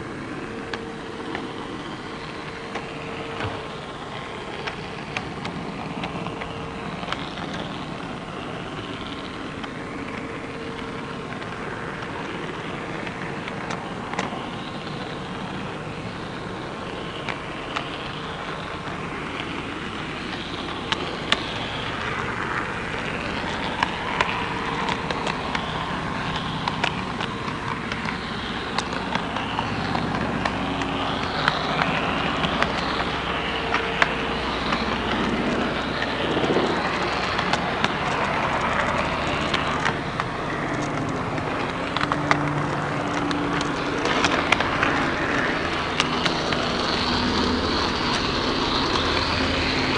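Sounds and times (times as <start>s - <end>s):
model train running with whine: 0.0s - 49.9s
sharp clicks of track: 0.0s - 49.9s.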